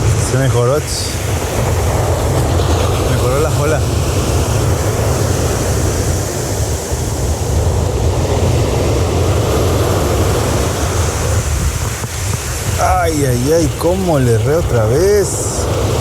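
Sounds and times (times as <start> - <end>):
ocean surf breaking: 0.0 - 16.0
wind rumble on microphone: 0.0 - 16.0.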